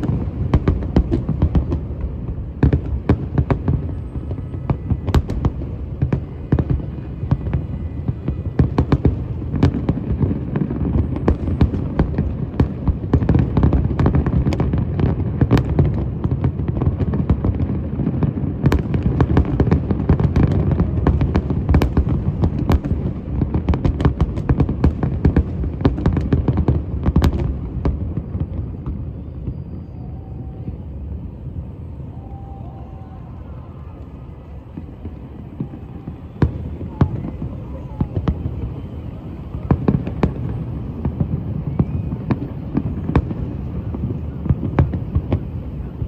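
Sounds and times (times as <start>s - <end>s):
fireworks cracking and banging: 0.0s - 46.0s.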